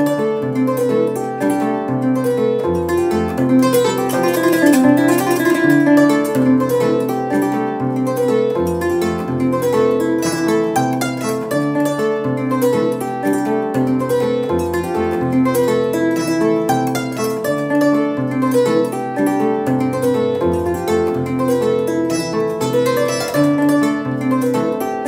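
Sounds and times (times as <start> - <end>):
harp plucked strings: 0.0 - 25.0.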